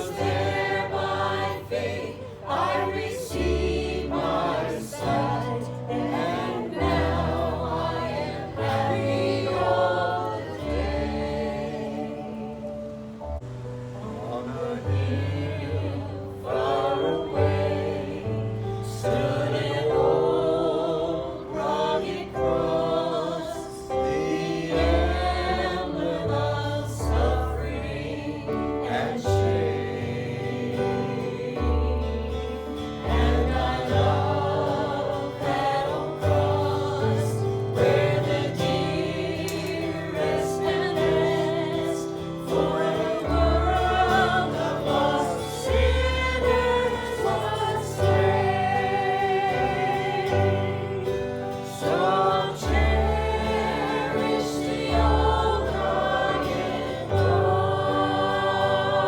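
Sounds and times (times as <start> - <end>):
group singing gospel song: 0.0 - 59.0.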